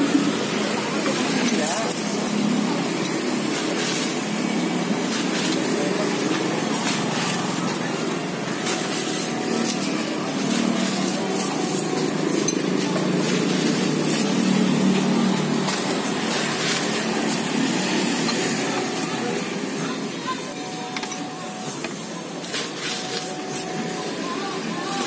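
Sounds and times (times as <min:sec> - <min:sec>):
passing traffic: 0:00.0 - 0:22.4.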